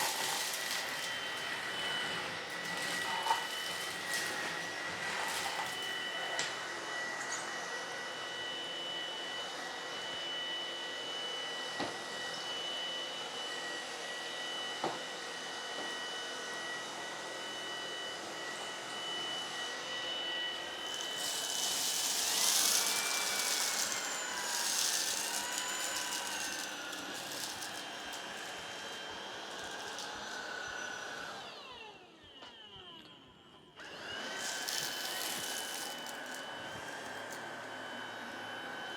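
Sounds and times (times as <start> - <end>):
stick vacuum motor whine: 0.0 - 38.9.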